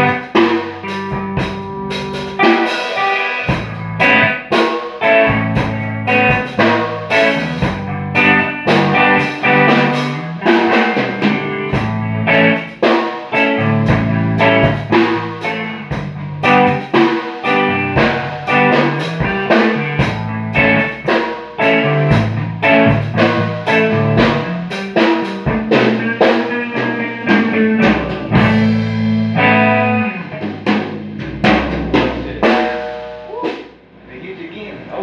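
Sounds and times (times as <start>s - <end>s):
drum kit beat: 0.0s - 34.7s
guitar: 0.0s - 35.0s.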